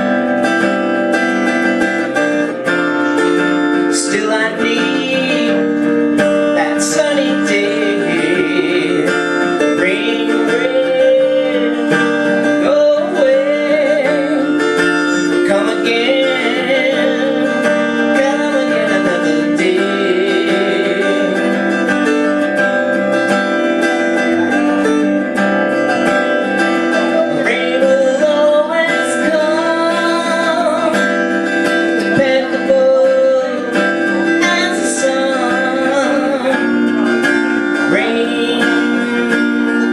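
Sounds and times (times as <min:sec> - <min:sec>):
acoustic guitar strumming: 0:00.0 - 0:39.9
person singing: 0:01.7 - 0:39.9.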